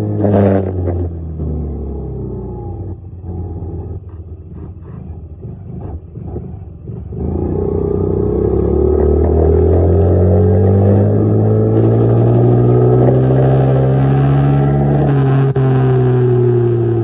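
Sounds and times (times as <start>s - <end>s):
dirt bike engine accelerating: 0.0s - 17.0s.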